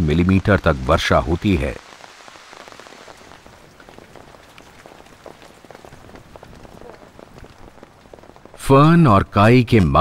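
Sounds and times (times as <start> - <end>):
drops dripping and ticking: 0.0 - 10.0
rain pattering: 0.0 - 10.0.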